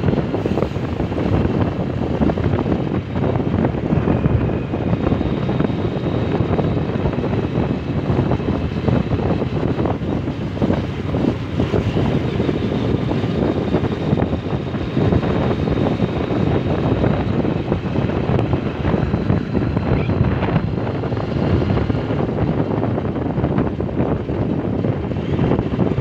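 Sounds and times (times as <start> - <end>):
motorcycle tyres on road: 0.0 - 26.0
wind buffeting microphone: 0.0 - 26.0.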